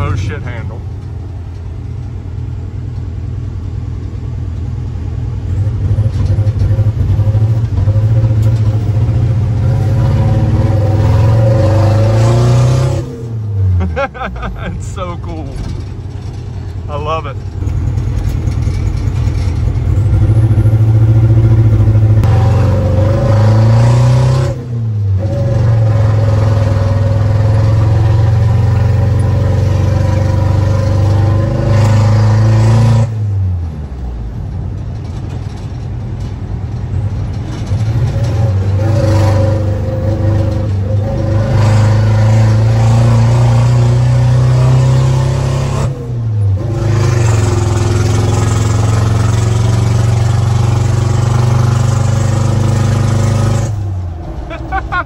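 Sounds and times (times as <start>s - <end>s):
diesel engine accelerating: 0.0s - 55.0s.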